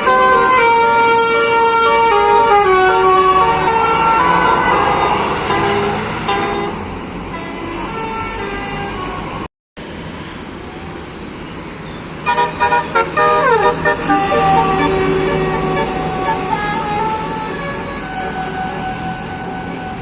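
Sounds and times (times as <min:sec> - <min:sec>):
bus horn playing a melody: 0:00.0 - 0:09.4, 0:12.2 - 0:20.0
bus engine: 0:00.0 - 0:20.0
traffic: 0:00.0 - 0:20.0.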